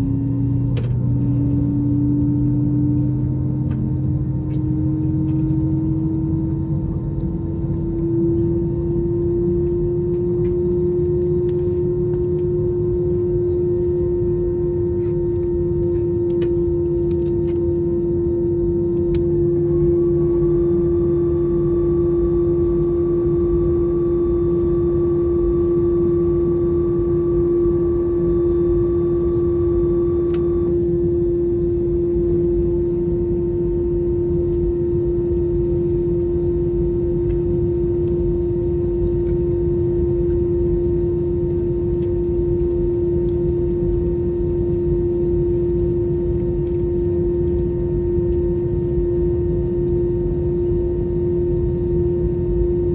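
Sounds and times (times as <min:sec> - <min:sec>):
jet engines idling drone: 0:00.0 - 0:52.9
faint high whine: 0:05.3 - 0:52.9.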